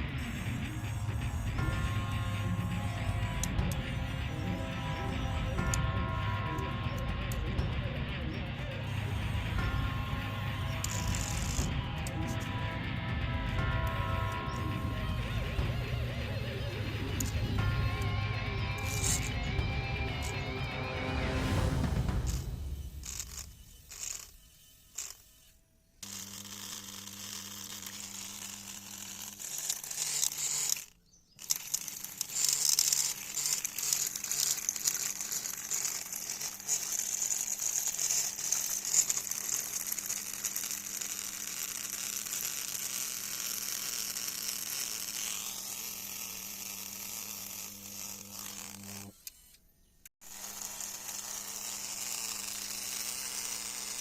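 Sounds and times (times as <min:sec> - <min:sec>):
rough grinding noise: 0:00.0 - 0:54.0
small electric motor buzzing: 0:00.0 - 0:54.0.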